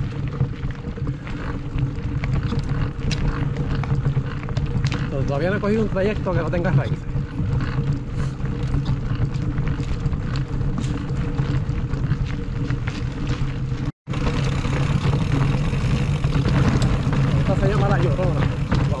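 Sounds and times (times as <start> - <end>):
bike rolling on gravel trail: 0.0 - 19.0
rattles and knocks of bike: 0.0 - 19.0.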